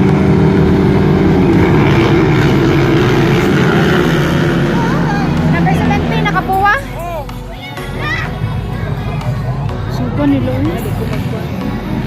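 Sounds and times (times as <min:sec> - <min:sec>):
motocross bike engines: 0:00.0 - 0:12.0.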